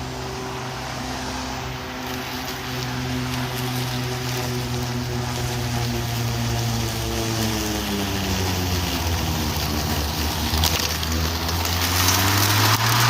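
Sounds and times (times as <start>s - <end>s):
electric lawn mower humming: 0.0s - 13.0s
hiss of cut grass: 0.0s - 13.0s.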